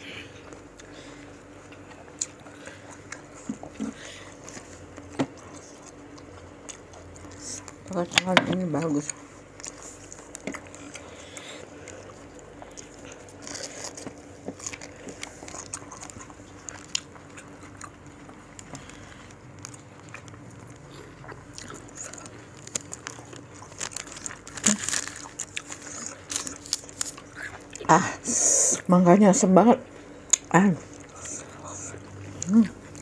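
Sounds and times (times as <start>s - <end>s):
biting and chewing fruit: 0.3s - 28.9s, 30.3s - 33.0s.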